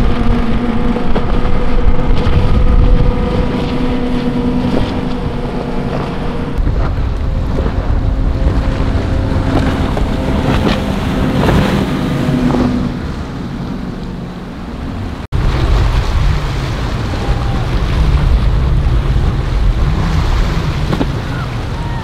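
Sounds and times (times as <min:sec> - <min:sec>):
outboard boat engines: 0:00.0 - 0:22.0
water rushing: 0:00.0 - 0:22.0
wind buffeting microphone: 0:00.0 - 0:22.0.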